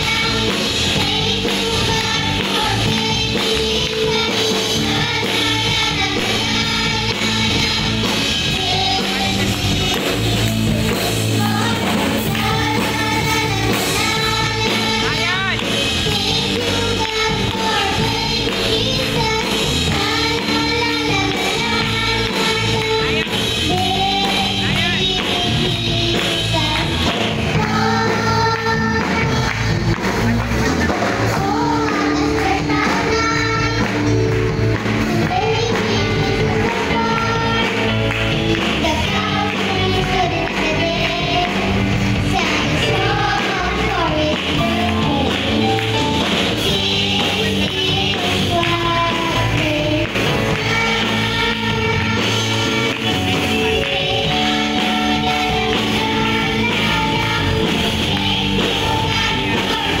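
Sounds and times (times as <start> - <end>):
children's choir singing: 0.0 - 60.0
instrumental accompaniment: 0.0 - 60.0.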